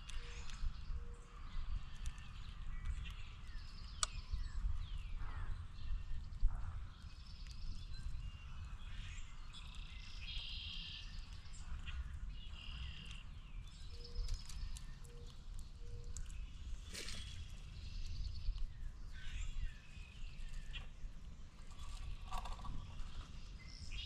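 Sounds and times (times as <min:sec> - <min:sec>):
steady low rumble: 0:00.0 - 0:24.0
wild birds chirping: 0:00.0 - 0:24.0.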